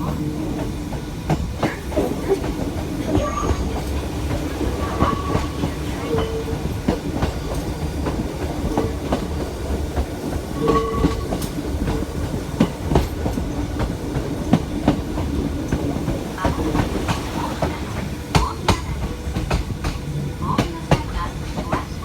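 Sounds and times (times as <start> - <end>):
electric train rumbling: 0.0 - 22.0
train squeaks: 0.0 - 22.0.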